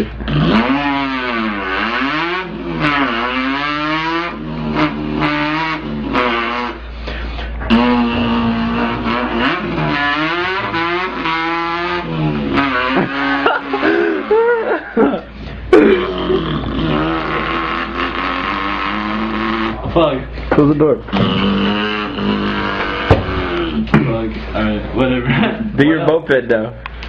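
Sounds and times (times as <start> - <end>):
man imitating car engine revving: 0.0 - 20.3, 21.0 - 24.7.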